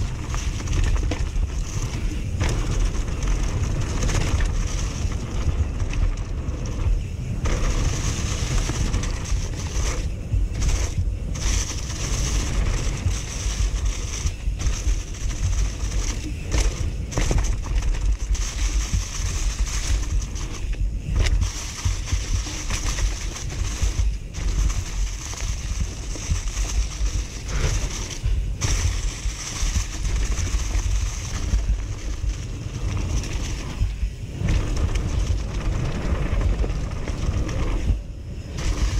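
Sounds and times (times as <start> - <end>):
bike tyres rolling over dirt: 0.0 - 38.9
wind rumble on microphone: 0.0 - 38.9.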